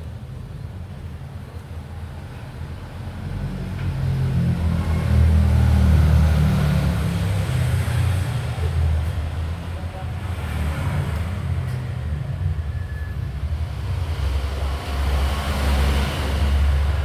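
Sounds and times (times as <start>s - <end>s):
passing road vehicle engine rumble: 2.4s - 17.0s.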